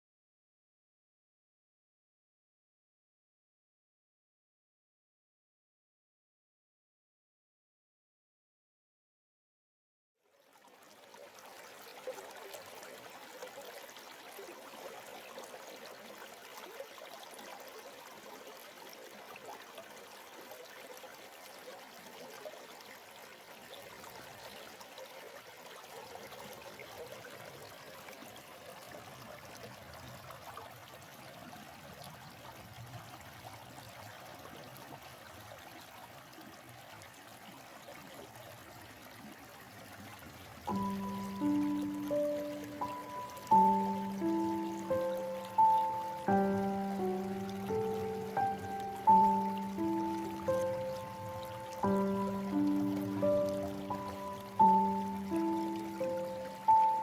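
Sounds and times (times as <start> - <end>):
stream water flowing over rocks: 10.3 - 57.0.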